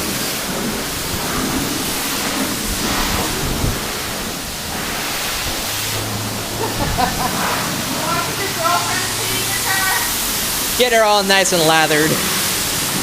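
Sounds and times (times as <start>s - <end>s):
pressure washer spraying water: 0.0s - 13.0s.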